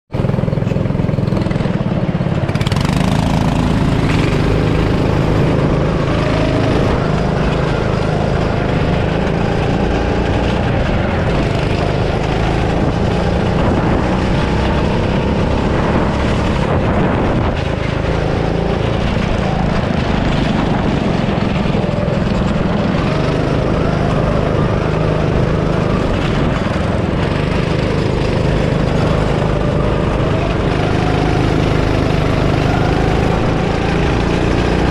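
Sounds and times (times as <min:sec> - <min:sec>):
go-kart engine running hard: 0:00.1 - 0:34.9.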